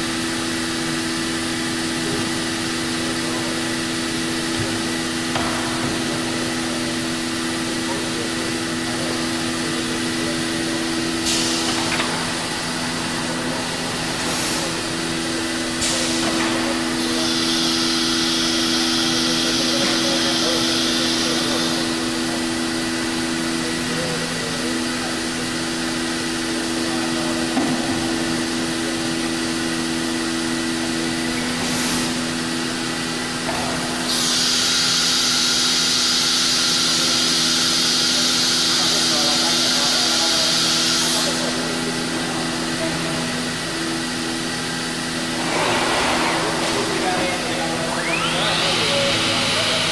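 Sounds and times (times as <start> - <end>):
machine mechanical hum: 0.0 - 49.9.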